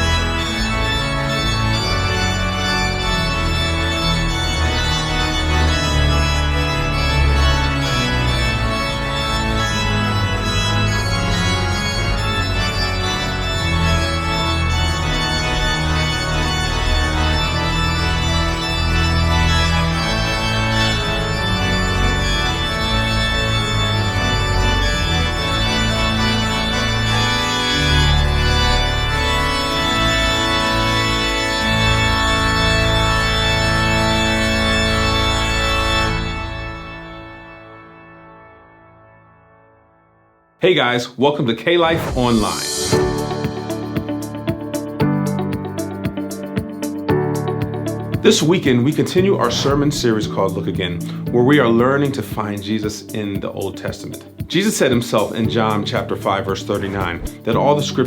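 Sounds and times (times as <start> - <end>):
organ playing slow chords: 0.0 - 40.6, 42.0 - 58.0.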